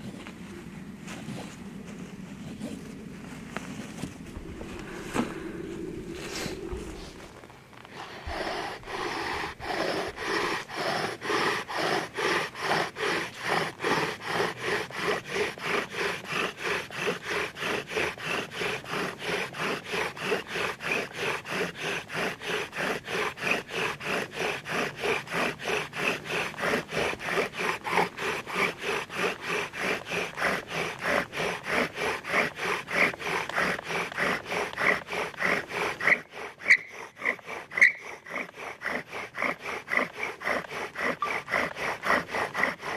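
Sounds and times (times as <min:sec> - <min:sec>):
wooden spindle grinding: 0:01.2 - 0:42.9
bow drill sawing: 0:03.7 - 0:42.9.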